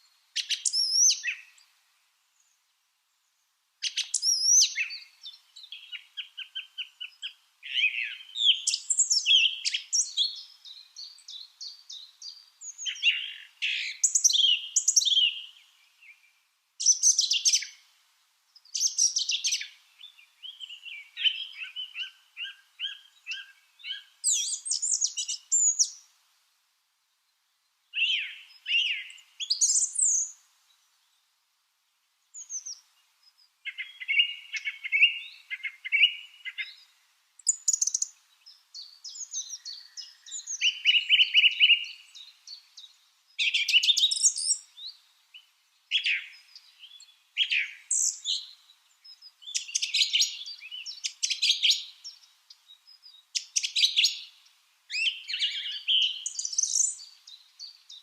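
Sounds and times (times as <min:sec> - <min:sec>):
lovebirds chirping: 0:00.0 - 0:26.2, 0:27.2 - 0:31.3, 0:32.2 - 0:58.0.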